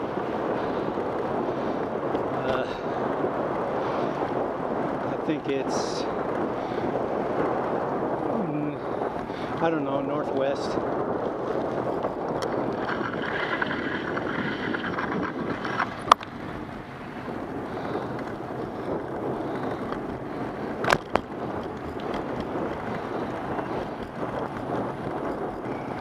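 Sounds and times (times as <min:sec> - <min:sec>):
wheels rolling on cement: 0:00.0 - 0:26.0
wind on microphone: 0:00.0 - 0:26.0.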